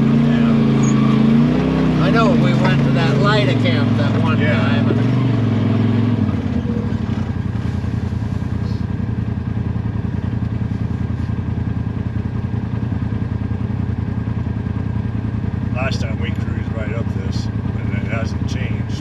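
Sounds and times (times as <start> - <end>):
utility vehicle engine chugging: 0.0 - 19.0.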